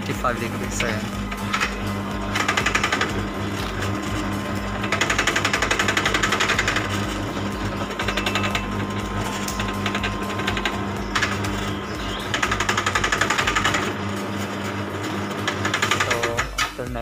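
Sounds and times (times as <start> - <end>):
juicer motor hum: 0.0 - 17.0
rollers rattling rapidly: 0.0 - 17.0.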